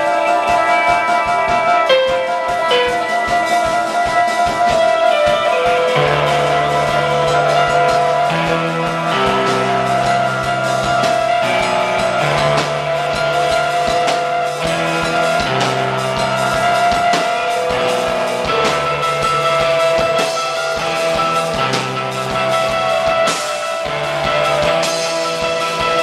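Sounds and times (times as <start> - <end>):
drum kit with cymbals: 0.0 - 26.0
electric guitar: 0.0 - 26.0
keyboard: 0.0 - 26.0.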